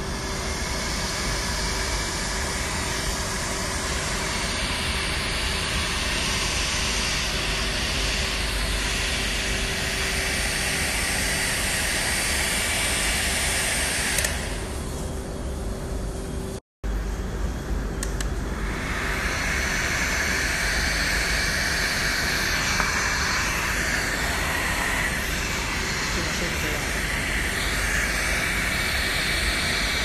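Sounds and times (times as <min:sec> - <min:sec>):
hot-air blower running: 0:00.0 - 0:30.0.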